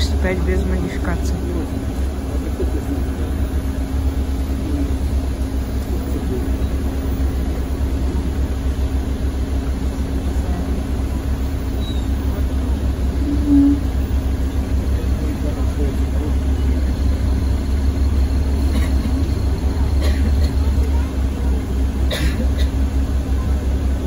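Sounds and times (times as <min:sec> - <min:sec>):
bus engine drone: 0:00.0 - 0:24.0.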